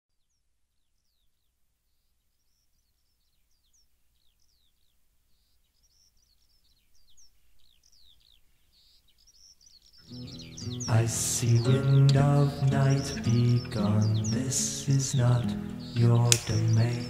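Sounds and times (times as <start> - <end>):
faint high bird chirps: 0.1 - 17.0.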